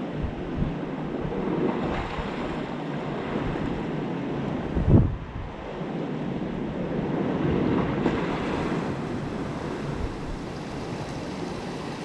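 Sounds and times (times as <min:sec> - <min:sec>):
surf washing on rocks: 0:00.0 - 0:12.0
wind buffeting microphone: 0:00.0 - 0:12.0.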